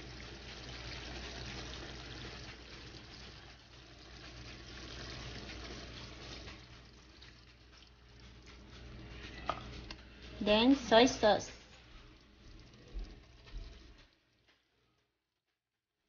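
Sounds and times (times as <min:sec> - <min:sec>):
liquid pouring into pan: 0:00.0 - 0:10.9, 0:11.6 - 0:14.6
low steady hum: 0:00.0 - 0:15.0.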